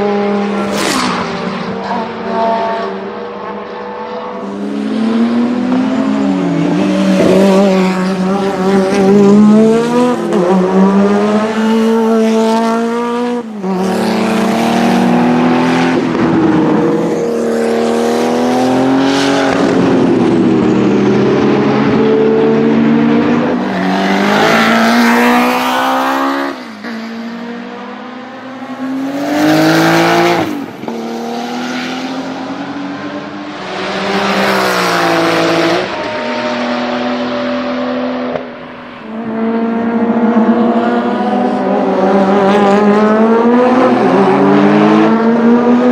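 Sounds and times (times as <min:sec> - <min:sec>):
race car engine revving: 0:00.0 - 0:45.9.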